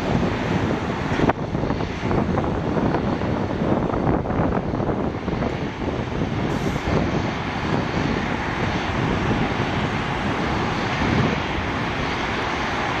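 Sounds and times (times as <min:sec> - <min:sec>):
jet engines rumbling at takeoff: 0:00.0 - 0:13.0.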